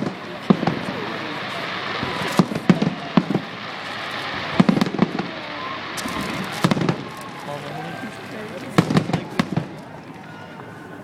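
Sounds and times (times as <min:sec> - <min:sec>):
firework shells booming: 0:00.0 - 0:10.2
fireworks crackling: 0:00.0 - 0:11.0.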